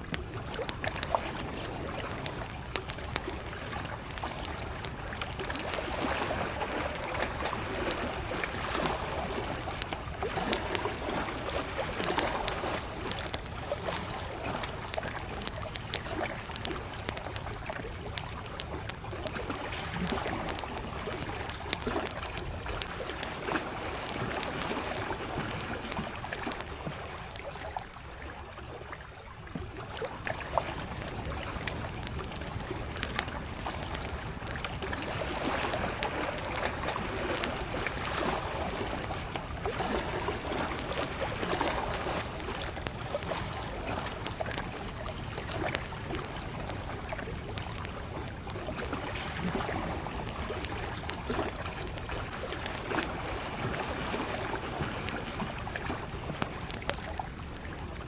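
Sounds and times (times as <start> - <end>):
campfire crackling and popping: 0.0 - 28.7, 29.3 - 58.0
small waves lapping at shore: 0.0 - 58.0.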